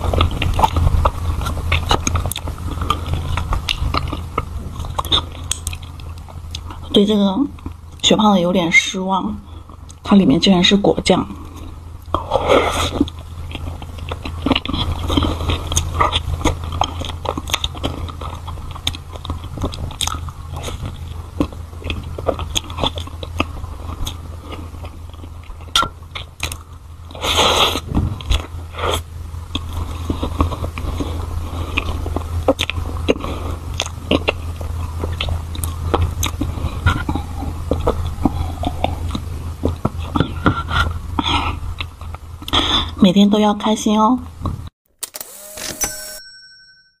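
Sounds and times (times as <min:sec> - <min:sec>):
chewing mouth sounds: 0:00.0 - 0:06.9, 0:11.5 - 0:42.6
low steady hum: 0:00.0 - 0:47.0.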